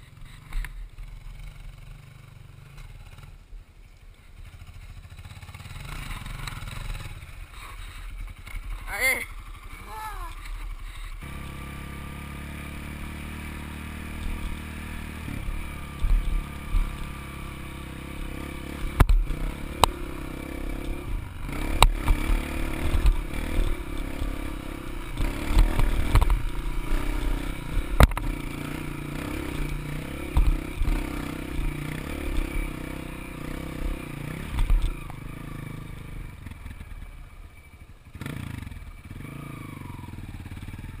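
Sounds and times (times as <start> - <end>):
dirt bike engine revving: 4.4 - 41.0.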